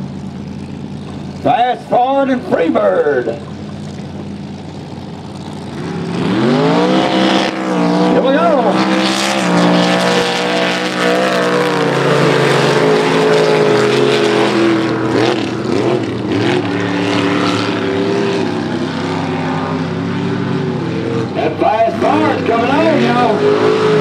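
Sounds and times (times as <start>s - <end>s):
truck engines at full throttle: 0.0s - 24.0s.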